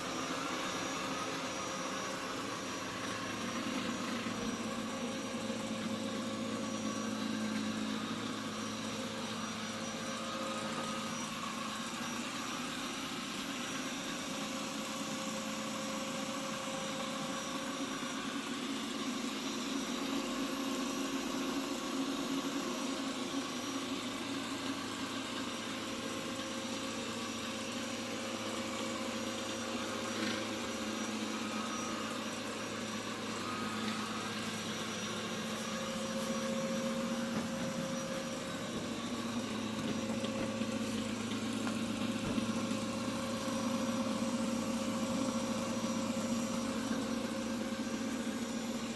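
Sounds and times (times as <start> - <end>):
robot vacuum motor humming: 0.0 - 48.9.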